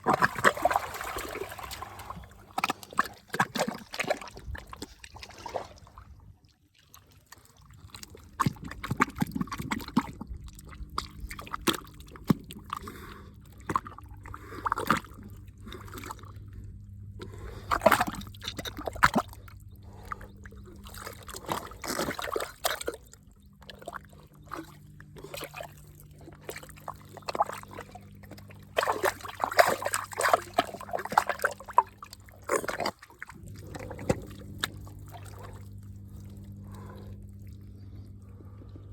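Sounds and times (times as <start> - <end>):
faint low hum: 0.0 - 6.6, 7.5 - 38.9
water splashing and trickling: 0.0 - 16.6, 17.2 - 37.6.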